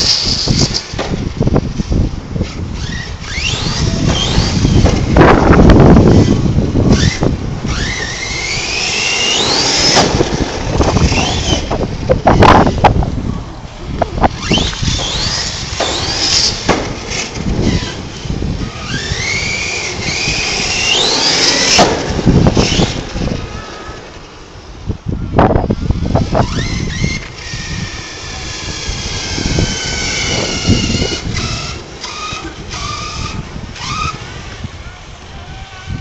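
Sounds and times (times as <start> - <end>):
electric rc car motor whining: 0.0 - 13.1, 14.1 - 24.6, 25.6 - 34.8.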